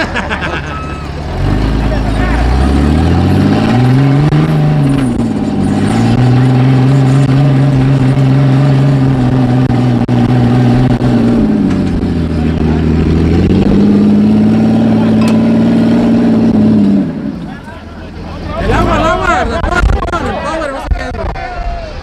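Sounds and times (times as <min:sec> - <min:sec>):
off-road engine revving: 0:00.0 - 0:21.5.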